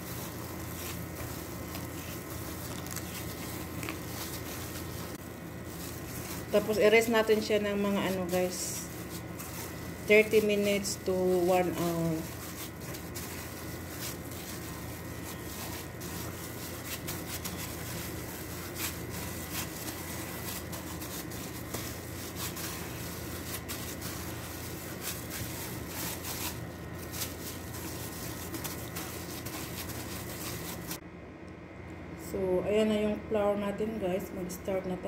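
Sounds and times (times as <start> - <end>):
gloved hands kneading dough: 0.0 - 31.0
faint steady hum: 0.0 - 35.0.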